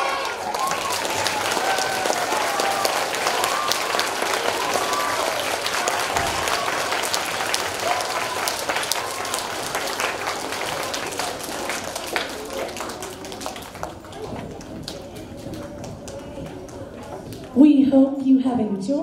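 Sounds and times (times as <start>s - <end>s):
children applauding: 0.0s - 17.6s.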